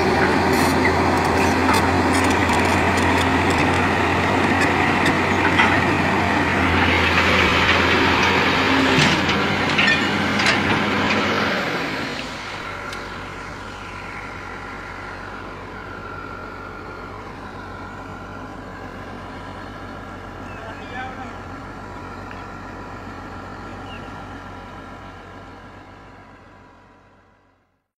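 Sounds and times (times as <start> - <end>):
excavator diesel engine running: 0.0 - 27.8.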